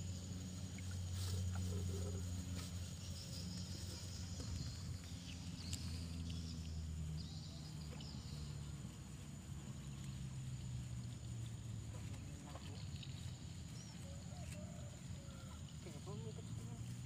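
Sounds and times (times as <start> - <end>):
motor low drone: 0.0 - 17.0
faint high chirps and ticks: 0.1 - 17.0.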